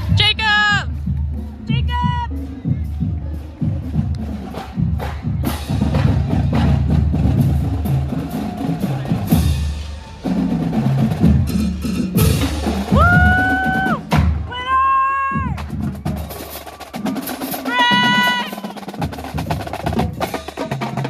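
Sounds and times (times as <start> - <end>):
snare and bass drums playing: 0.0 - 14.6, 15.3 - 21.0.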